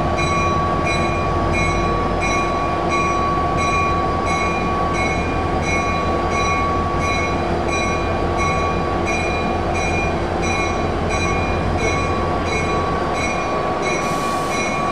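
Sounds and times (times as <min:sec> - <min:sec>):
diesel locomotive rumbling past: 0:00.0 - 0:14.9
locomotive bell ringing: 0:00.0 - 0:14.9.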